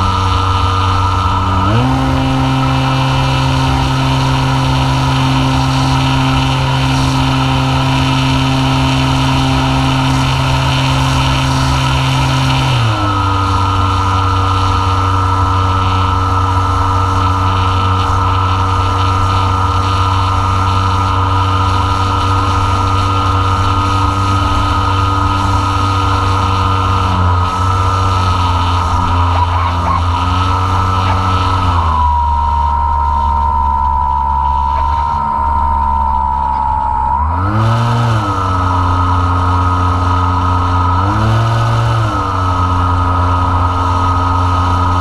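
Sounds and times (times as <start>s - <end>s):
electric motor and propeller whine: 0.0s - 45.0s.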